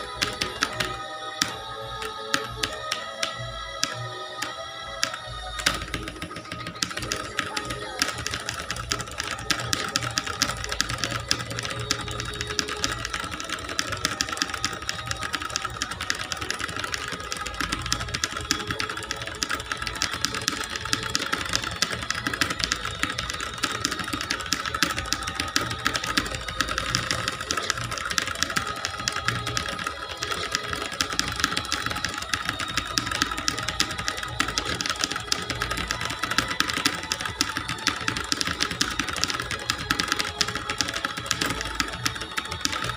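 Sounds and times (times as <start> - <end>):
fast typing on clicky keyboard: 0.0 - 42.9.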